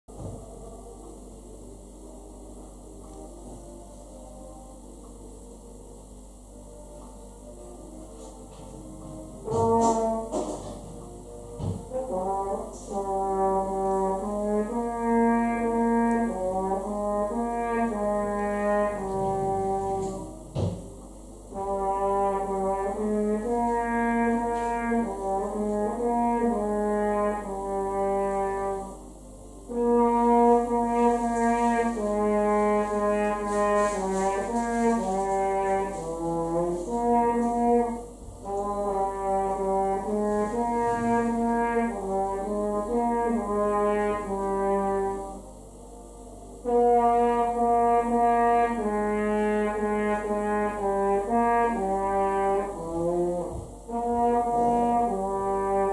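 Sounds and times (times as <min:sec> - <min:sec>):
horn playing slow melody: 0:00.1 - 0:55.9.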